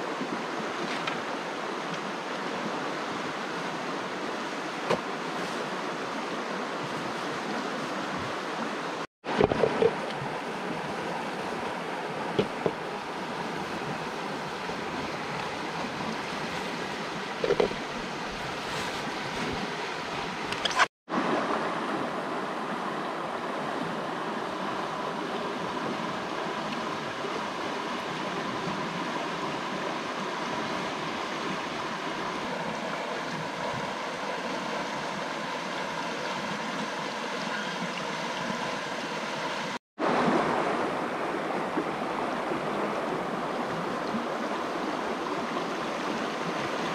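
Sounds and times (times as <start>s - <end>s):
stream water over stones: 0.0s - 46.9s.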